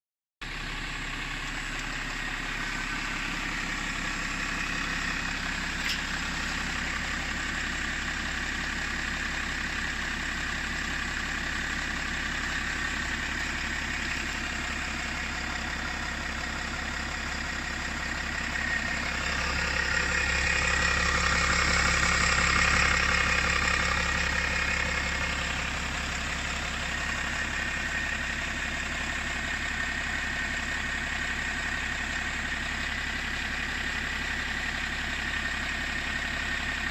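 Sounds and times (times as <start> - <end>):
diesel engine idling roughly: 0.4 - 36.9.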